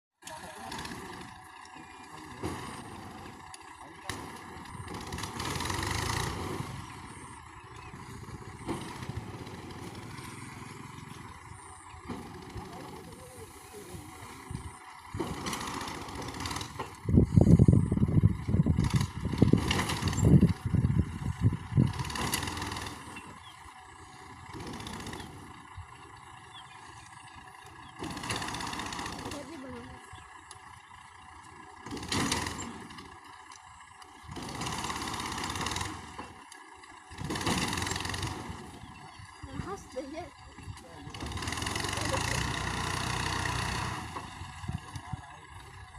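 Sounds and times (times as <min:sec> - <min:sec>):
vehicle engine running: 0:00.2 - 0:45.9.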